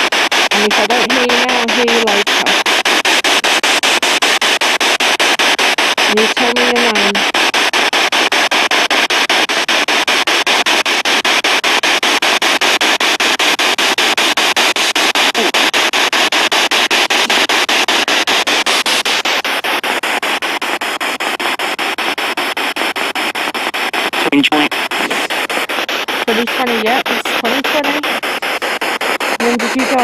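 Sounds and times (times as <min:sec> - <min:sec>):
pulsing radio static: 0:00.0 - 0:30.0.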